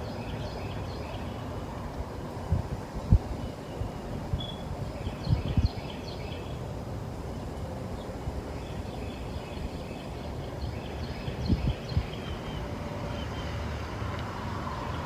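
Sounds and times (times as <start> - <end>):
low outdoor rumble: 0.0 - 15.0
songbirds chirping: 0.0 - 15.0.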